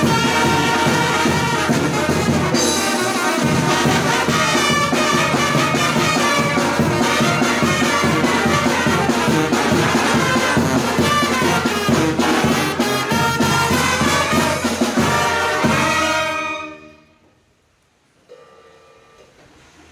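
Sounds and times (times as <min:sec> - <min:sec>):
drum beat: 0:00.0 - 0:16.4
trumpets and trombones: 0:00.0 - 0:17.3.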